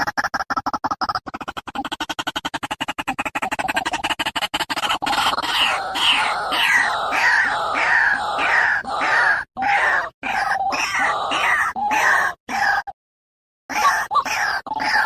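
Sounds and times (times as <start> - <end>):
bird harsh croaking calls: 1.2 - 13.0, 13.7 - 15.0.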